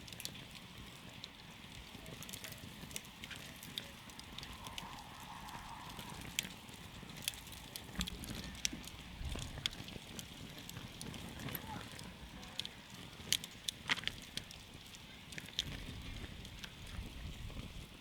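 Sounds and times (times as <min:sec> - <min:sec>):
campfire hissing: 0:00.0 - 0:18.0
fire crackles and pops: 0:00.0 - 0:18.0.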